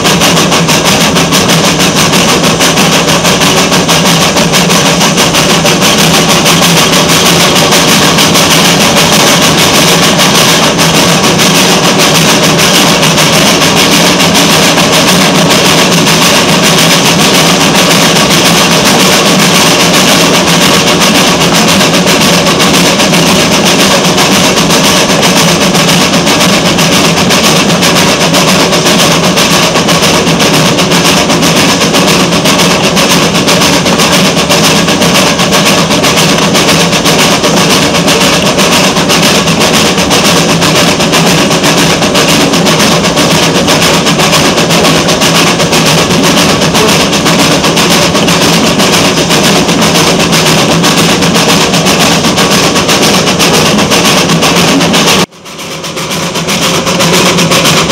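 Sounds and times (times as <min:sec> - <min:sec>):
steam locomotive chuffing: 0:00.0 - 0:57.9
train clatter: 0:00.0 - 0:57.9.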